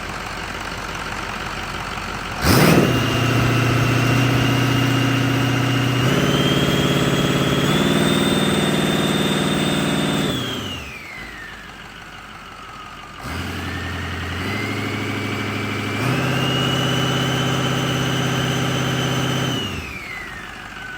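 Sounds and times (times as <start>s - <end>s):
diesel engine revving: 0.0s - 20.9s.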